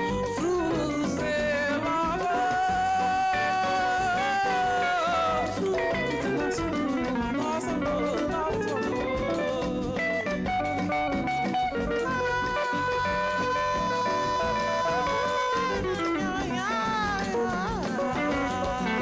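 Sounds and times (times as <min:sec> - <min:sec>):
electric guitar melody: 0:00.0 - 0:19.0.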